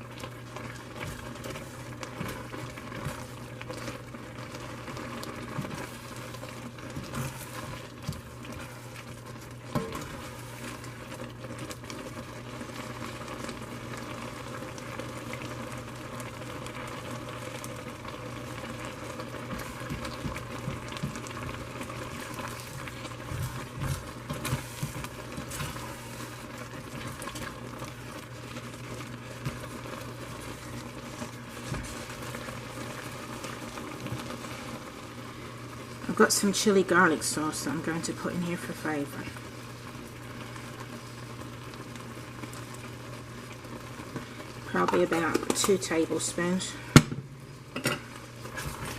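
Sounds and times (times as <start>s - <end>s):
noodles bubbling in a pan: 0.0s - 48.9s.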